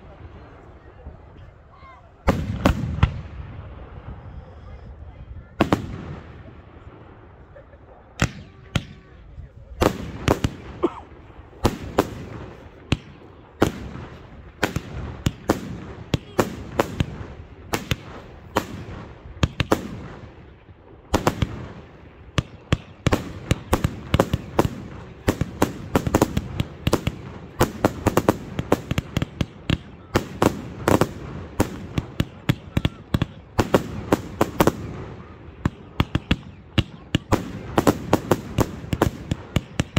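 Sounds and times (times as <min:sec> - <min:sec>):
fireworks bangs: 0:02.2 - 0:04.2, 0:05.6 - 0:07.2, 0:08.1 - 0:39.9.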